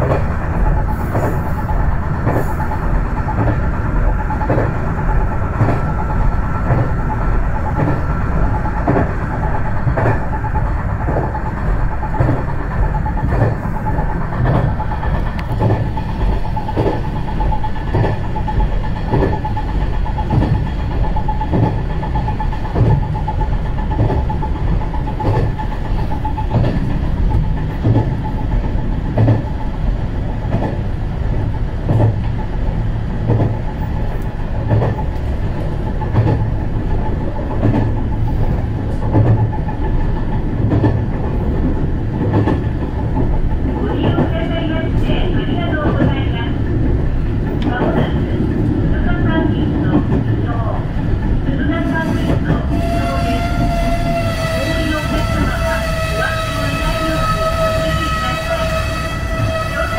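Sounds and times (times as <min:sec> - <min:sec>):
wheels clacking over rail joints: 0:00.0 - 0:51.7
constant whine: 0:00.0 - 0:59.9
railcar engine rumbling: 0:00.0 - 0:59.9.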